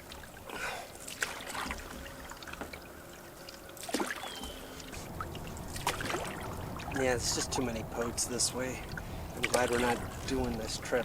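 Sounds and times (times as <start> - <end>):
paddle splashing water: 0.0 - 11.0
water dripping: 0.0 - 11.0.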